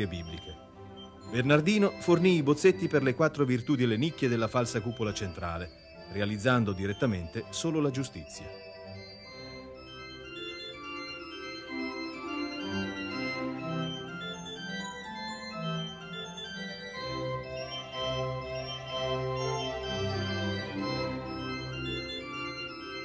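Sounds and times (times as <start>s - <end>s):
organ music: 0.0s - 23.0s.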